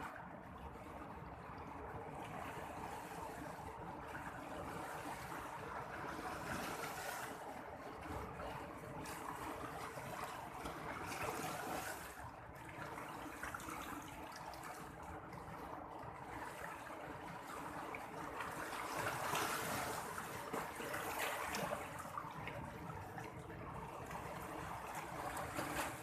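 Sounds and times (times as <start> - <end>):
sea water washing and lapping: 0.0 - 26.0.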